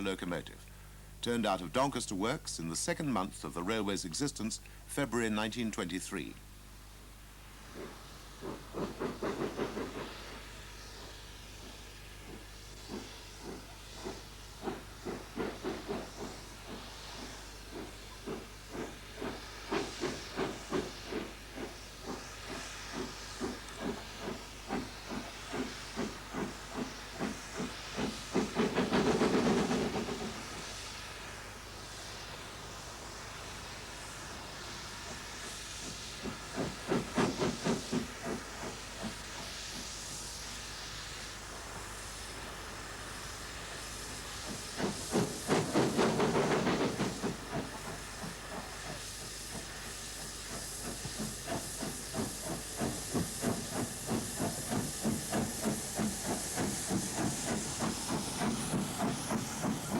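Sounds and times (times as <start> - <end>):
steam locomotive exhaust beats: 0.0 - 59.9
steam hiss: 6.9 - 59.9.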